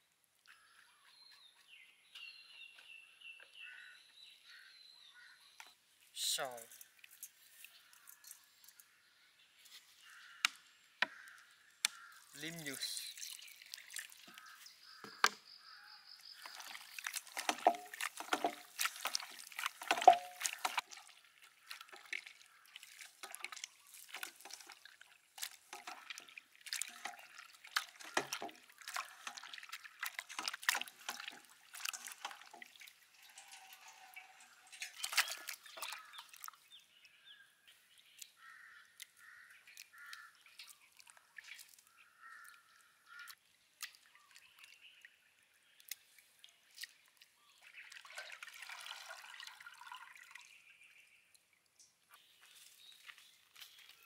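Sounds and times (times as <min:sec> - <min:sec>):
wet squelches and splashes: 0:00.2 - 0:54.0.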